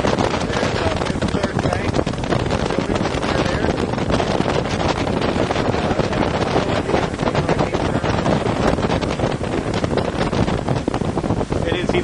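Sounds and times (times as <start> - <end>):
boat engines running: 0.0 - 12.0
water rushing: 0.0 - 12.0
wind buffeting microphone: 0.0 - 12.0.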